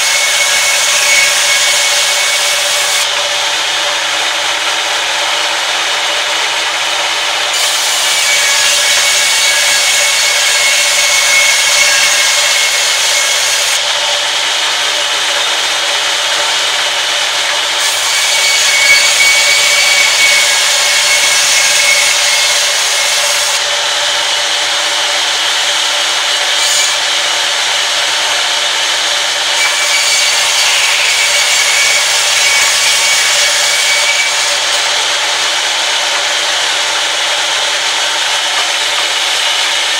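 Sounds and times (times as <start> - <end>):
band saw cutting boards: 0.0 - 39.9
band saw running hum: 0.0 - 39.9.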